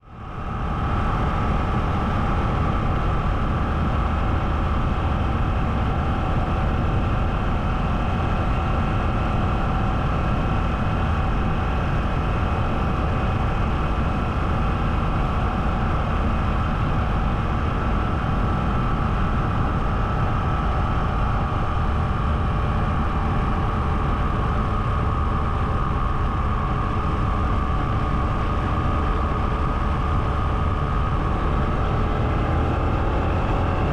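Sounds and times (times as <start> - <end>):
constant whine: 0.0 - 33.9
vehicle engine and road rumble: 0.0 - 33.9.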